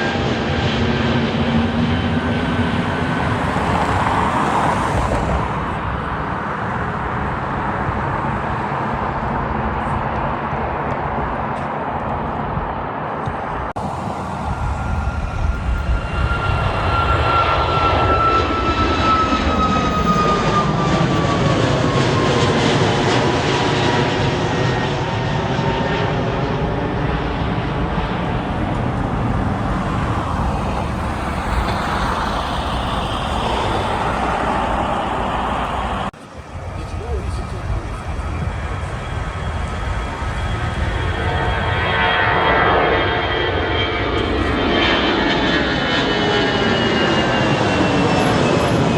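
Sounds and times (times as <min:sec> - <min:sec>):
jet airliner engine rumble: 0:00.0 - 0:48.9
jet engine high whine: 0:00.0 - 0:48.9.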